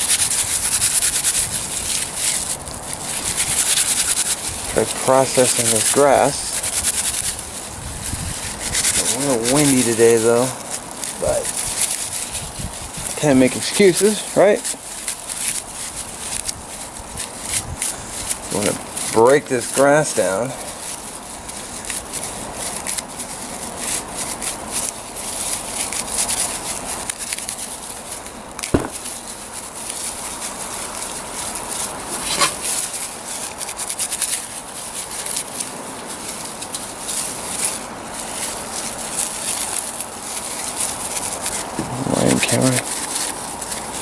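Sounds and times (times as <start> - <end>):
dry grass rubbed between hands: 0.0 - 44.0.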